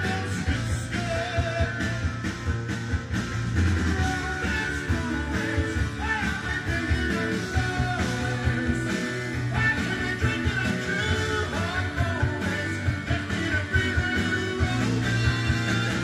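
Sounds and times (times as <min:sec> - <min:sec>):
rock song with guitar: 0:00.0 - 0:16.0.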